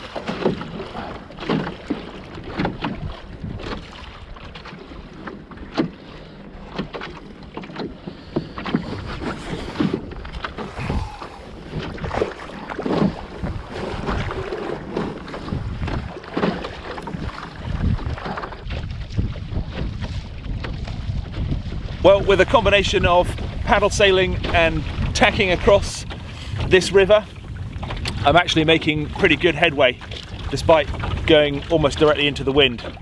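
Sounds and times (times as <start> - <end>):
wind on microphone: 0.0 - 4.4, 8.2 - 33.0
water slapping against canoe: 0.0 - 33.0.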